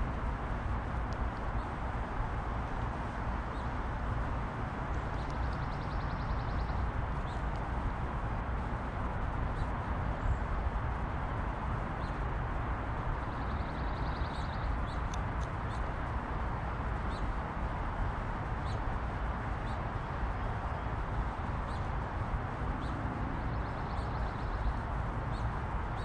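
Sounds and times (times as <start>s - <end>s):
low outdoor background noise: 0.0s - 26.0s.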